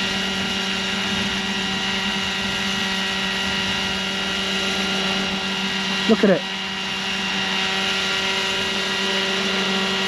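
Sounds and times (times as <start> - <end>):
model helicopter rotor whine: 0.0 - 10.0.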